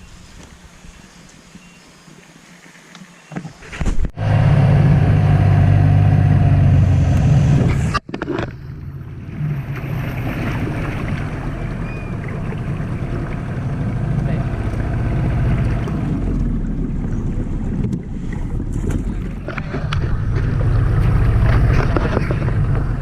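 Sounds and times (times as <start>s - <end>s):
outboard motor running: 4.2s - 23.0s.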